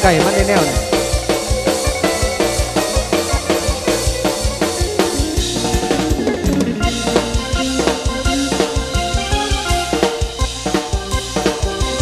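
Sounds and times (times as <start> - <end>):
band music: 0.0 - 12.0
bass line: 0.0 - 12.0
drum kit fast beat: 0.0 - 12.0.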